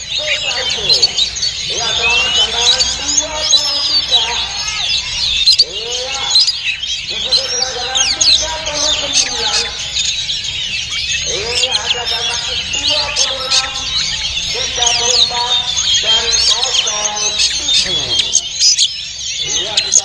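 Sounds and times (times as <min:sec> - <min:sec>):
people talking: 0:00.0 - 0:09.9, 0:11.2 - 0:18.5, 0:19.4 - 0:20.0
songbirds singing: 0:00.0 - 0:20.0.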